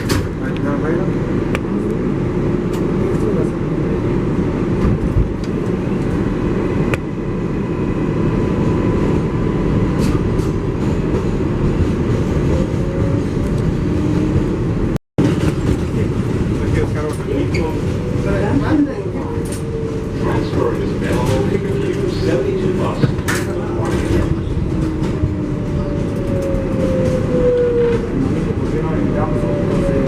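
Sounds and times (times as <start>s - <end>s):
subway wheels rumbling on rails: 0.0s - 30.0s.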